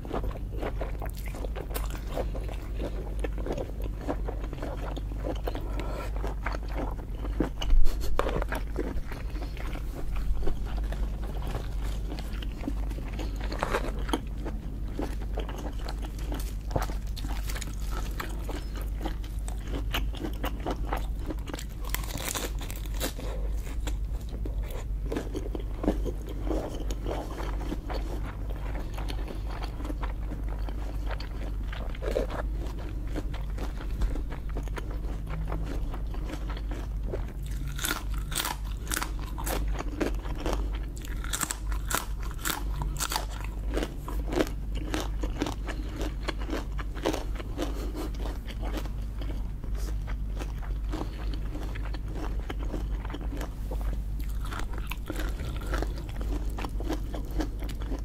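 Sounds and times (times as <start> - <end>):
chewing and crunching lobster: 0.0 - 58.0
steady low hum: 0.0 - 58.0.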